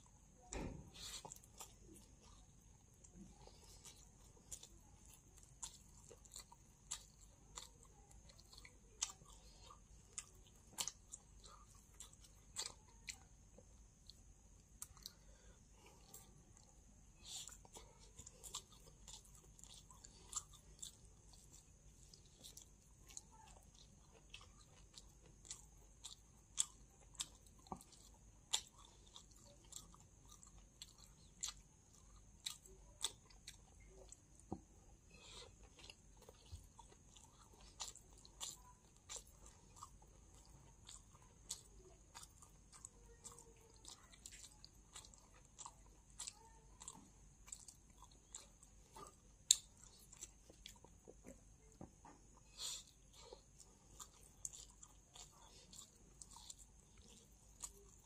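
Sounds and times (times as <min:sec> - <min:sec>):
chewing and biting food: 0:00.3 - 0:58.0.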